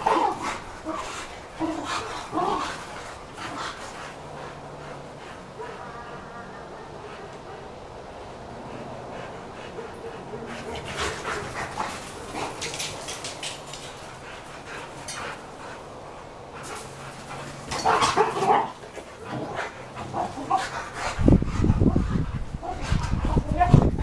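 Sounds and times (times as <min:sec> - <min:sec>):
dogs vocalising while playing: 0:00.0 - 0:24.0.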